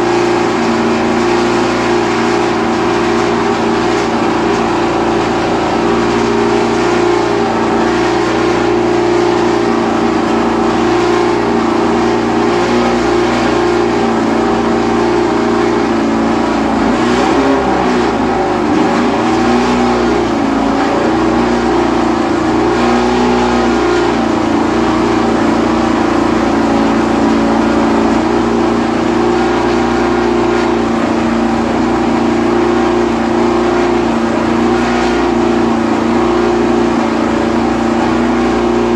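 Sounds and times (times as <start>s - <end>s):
racing car engine running: 0.0s - 38.9s.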